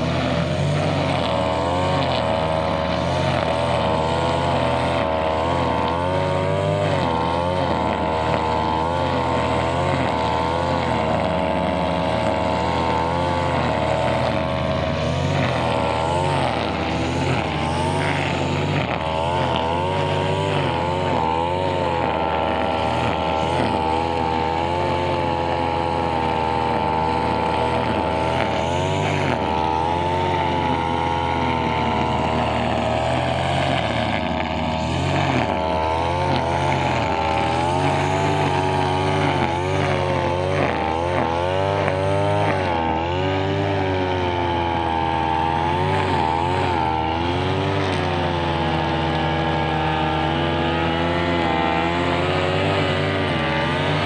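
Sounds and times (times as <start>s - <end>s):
brushcutter engine trimming grass: 0.0s - 54.0s.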